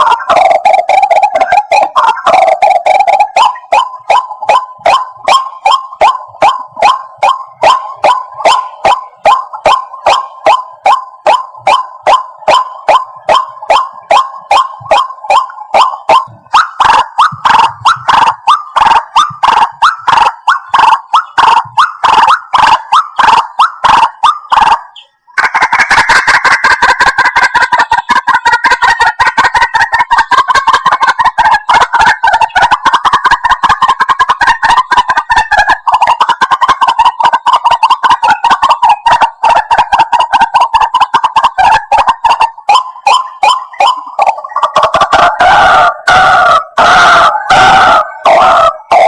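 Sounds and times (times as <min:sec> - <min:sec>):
bird harsh croaking calls: 0:00.0 - 0:49.0.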